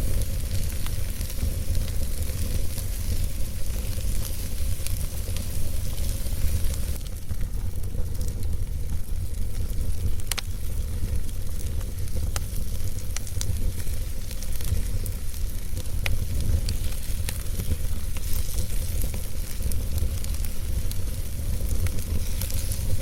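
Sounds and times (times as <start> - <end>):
burning logs crackling and popping: 0.0 - 23.0
fireplace flames rumbling: 0.0 - 23.0.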